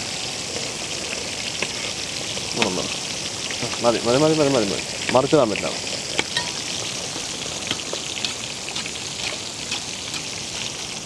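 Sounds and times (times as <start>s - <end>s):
fish deep-frying sizzle: 0.0s - 11.0s
oil crackling and popping: 0.0s - 11.0s.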